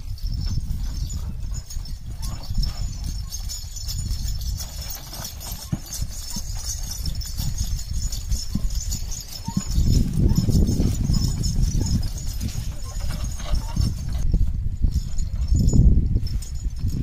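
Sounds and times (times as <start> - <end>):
hooves clopping on dirt: 0.0 - 17.0.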